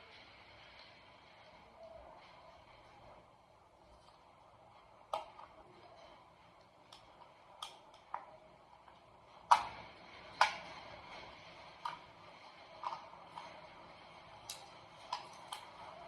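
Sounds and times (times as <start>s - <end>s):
doppler speaker hiss: 0.0s - 16.0s.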